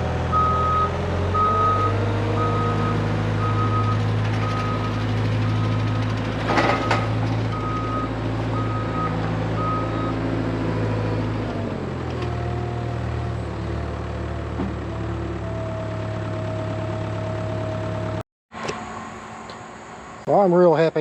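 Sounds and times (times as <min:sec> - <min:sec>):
skid steer engine running: 0:00.0 - 0:20.3.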